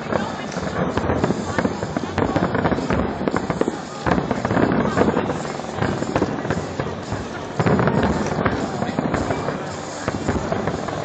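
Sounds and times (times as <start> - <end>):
fireworks booms and crackling: 0.0 - 11.0.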